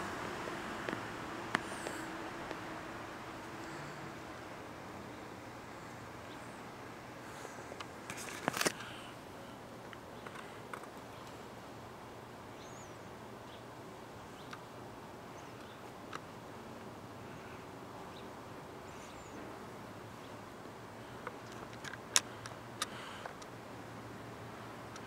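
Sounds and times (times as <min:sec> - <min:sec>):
faint outdoor background: 0:00.0 - 0:25.0.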